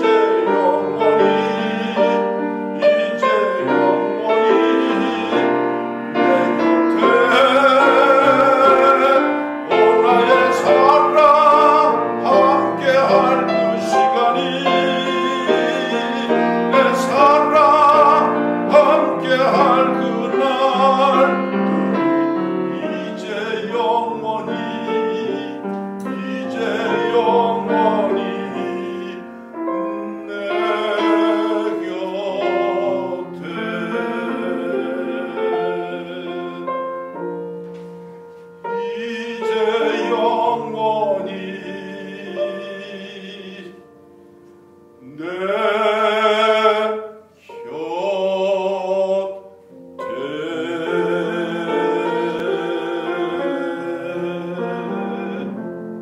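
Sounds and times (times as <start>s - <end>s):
grand piano: 0.0s - 56.0s
man singing classical style: 0.0s - 56.0s.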